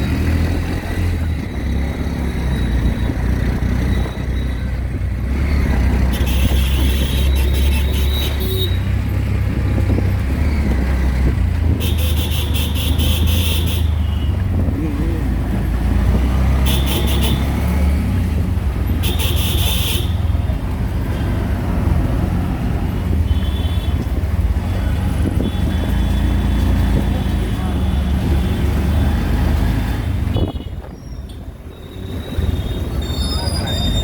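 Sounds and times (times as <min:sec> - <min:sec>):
auto-rickshaw engine running: 0:00.0 - 0:34.0
street traffic: 0:00.0 - 0:34.0.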